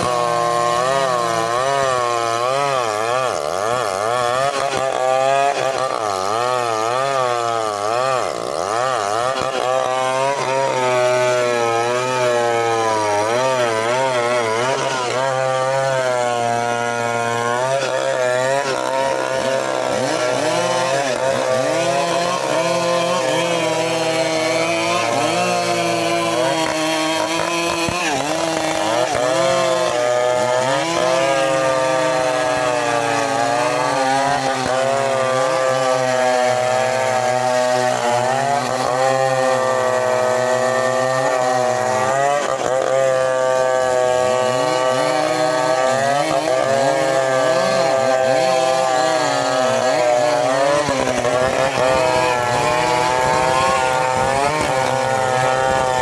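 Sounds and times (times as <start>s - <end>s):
chainsaws cutting log: 0.0s - 56.0s.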